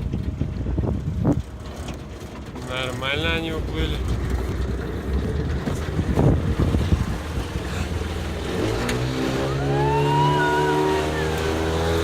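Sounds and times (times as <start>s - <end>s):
motorboat engine: 0.0s - 12.0s
water noise: 0.0s - 12.0s
wind: 0.0s - 12.0s.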